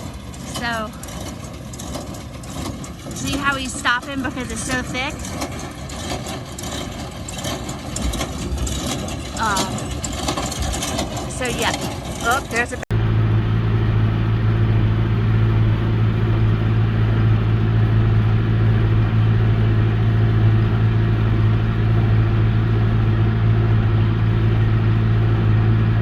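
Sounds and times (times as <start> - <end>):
baler machinery running: 0.0 - 26.0
tractor engine droning: 0.0 - 26.0.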